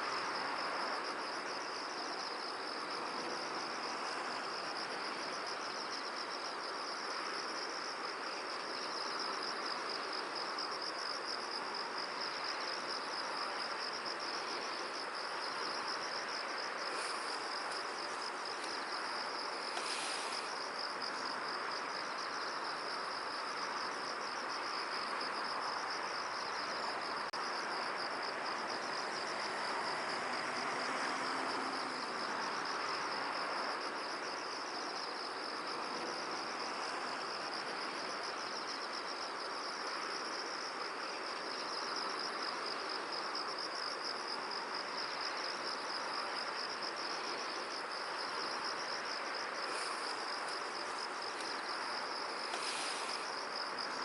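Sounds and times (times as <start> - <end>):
insects trilling: 0.0 - 54.0
wind hiss: 0.0 - 54.0.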